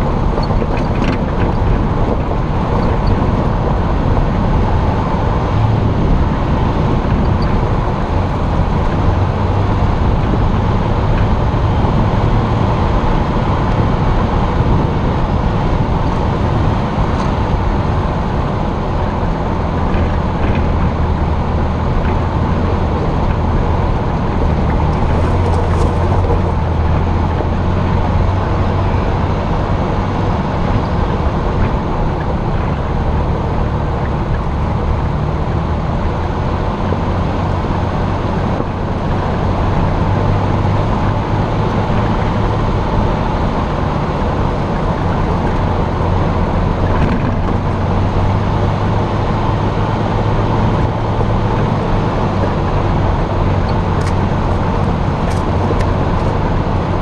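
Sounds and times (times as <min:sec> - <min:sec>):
engine drone: 0:00.0 - 0:57.0
tyre and wind noise: 0:00.0 - 0:57.0.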